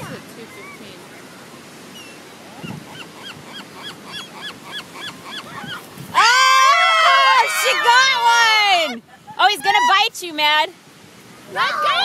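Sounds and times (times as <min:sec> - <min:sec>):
seagulls calling: 0:00.0 - 0:10.1.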